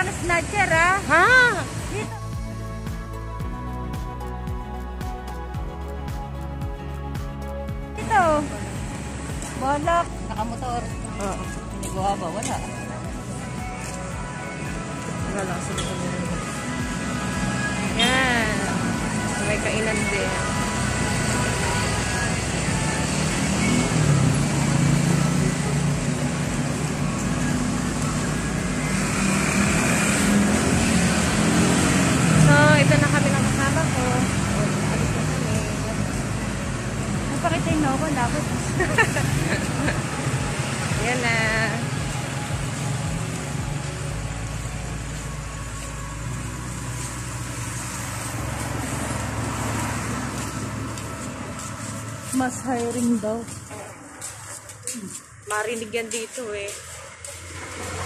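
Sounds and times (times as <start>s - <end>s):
rumble of passing cars: 0.0s - 58.0s
street traffic: 0.0s - 58.0s.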